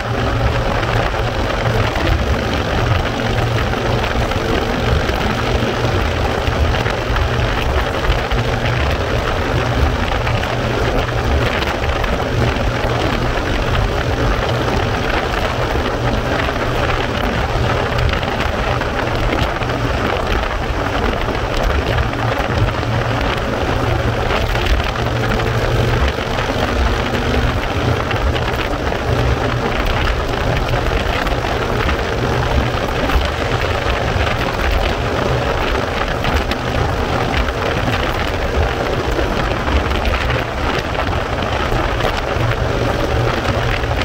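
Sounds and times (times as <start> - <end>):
motorcycle engine running: 0.0 - 44.0
wind buffeting microphone: 0.0 - 44.0.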